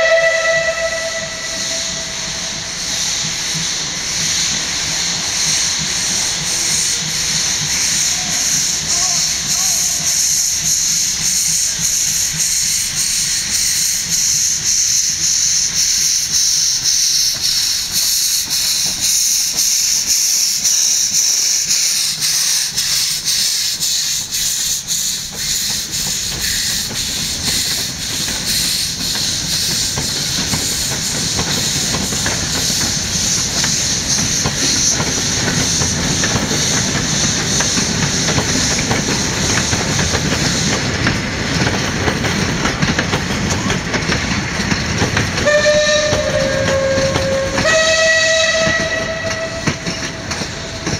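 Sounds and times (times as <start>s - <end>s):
low rumble of train: 0.0s - 50.9s
steam locomotive hissing steam: 0.0s - 50.9s.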